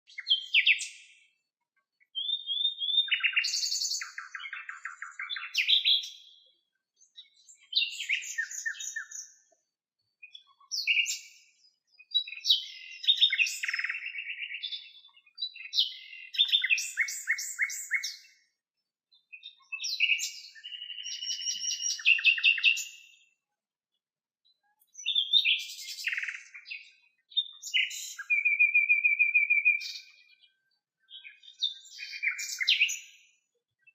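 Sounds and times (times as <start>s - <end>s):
nightingale singing: 0.0s - 23.4s, 24.6s - 33.9s.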